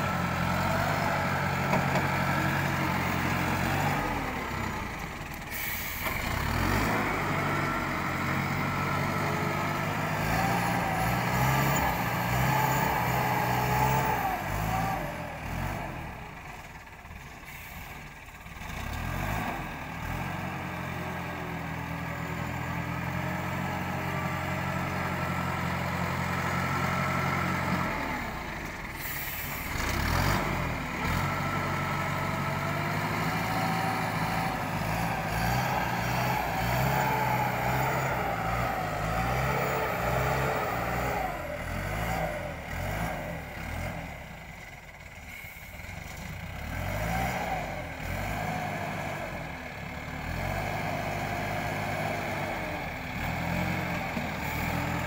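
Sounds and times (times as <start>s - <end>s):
wheel loader diesel engine: 0.0s - 55.0s.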